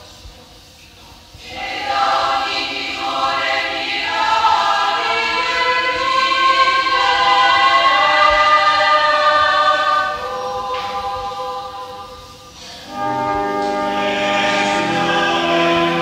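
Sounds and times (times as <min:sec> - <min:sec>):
women's choir singing a hymn: 0:01.4 - 0:16.0.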